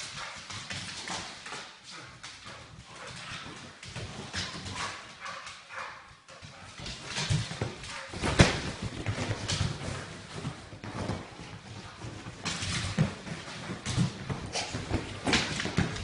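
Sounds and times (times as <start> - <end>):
dog paws clicking on wooden floor: 0.0 - 16.0.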